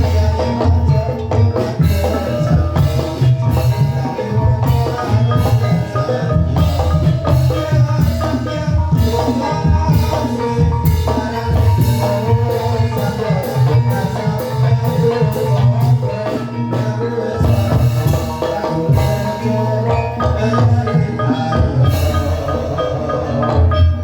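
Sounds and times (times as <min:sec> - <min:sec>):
gamelan music: 0:00.0 - 0:24.0
mallet-struck keyed instruments: 0:00.0 - 0:24.0
steady drumming: 0:00.0 - 0:24.0.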